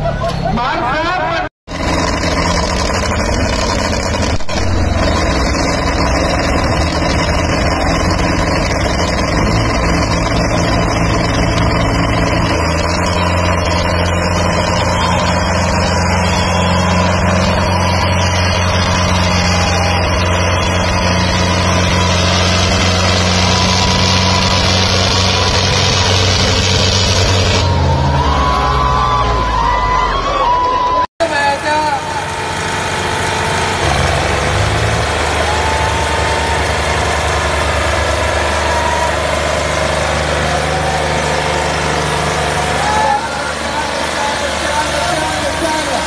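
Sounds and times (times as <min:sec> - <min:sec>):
tractor diesel engines under load: 0:00.0 - 0:46.0.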